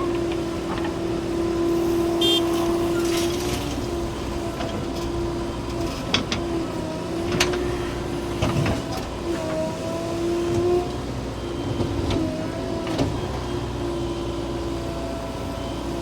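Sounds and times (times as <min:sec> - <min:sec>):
backhoe diesel engine whine: 0:00.0 - 0:16.0.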